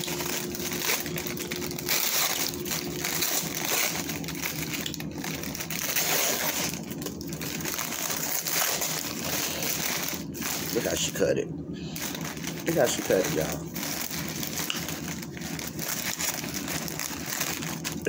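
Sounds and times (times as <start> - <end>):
paper wrapper crinkling: 0.0 - 11.2, 11.9 - 18.0.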